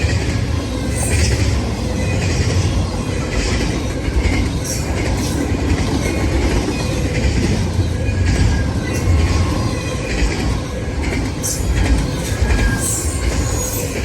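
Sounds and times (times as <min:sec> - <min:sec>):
freight train cars rolling past: 0:00.0 - 0:14.0
train wheel squeals: 0:00.0 - 0:14.0.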